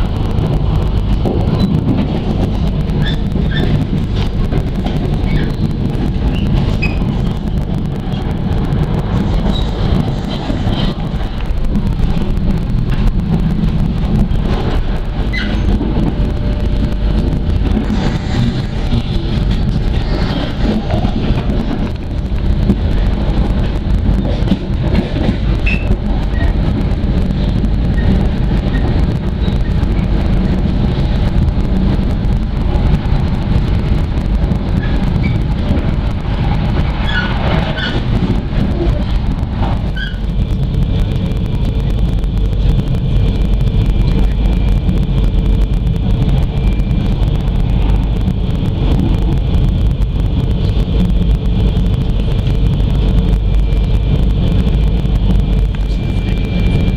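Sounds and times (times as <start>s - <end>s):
faint steady whine: 0.0s - 56.9s
train wheels rumbling on track: 0.0s - 56.9s.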